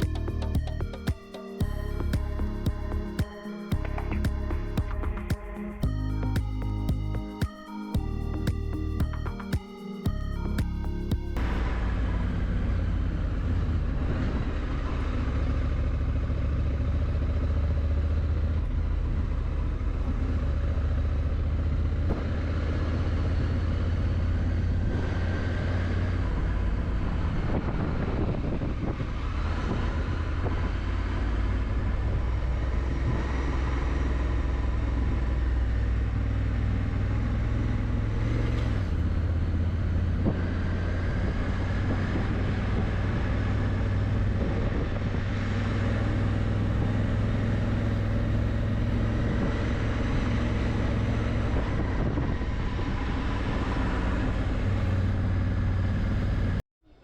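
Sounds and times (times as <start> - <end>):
road noise: 0.0 - 7.3, 10.1 - 56.6.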